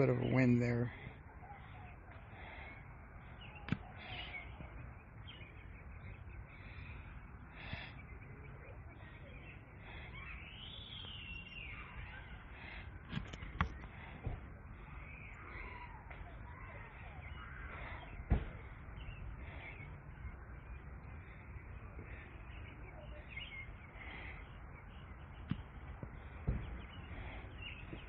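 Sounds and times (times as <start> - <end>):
faint bird chirps: 0.0 - 28.0.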